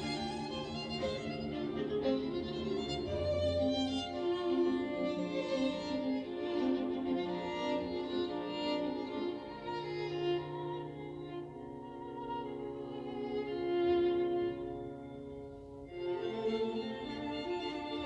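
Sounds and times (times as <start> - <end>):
bowed strings music: 0.0 - 18.0.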